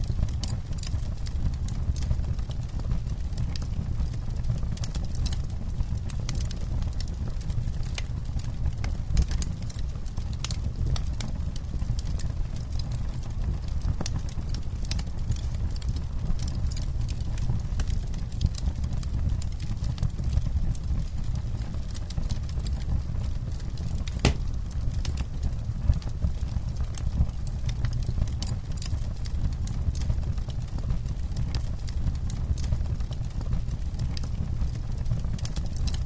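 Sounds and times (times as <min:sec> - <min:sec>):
burning wood crackling and popping: 0:00.0 - 0:36.0
campfire flames rumbling: 0:00.0 - 0:36.0.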